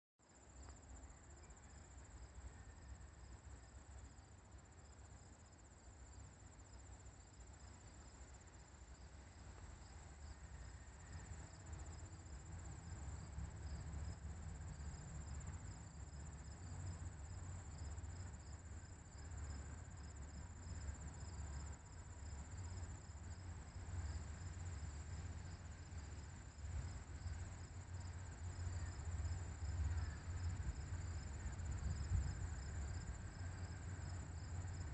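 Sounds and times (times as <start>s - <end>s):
crickets chirping: 0.3s - 34.9s.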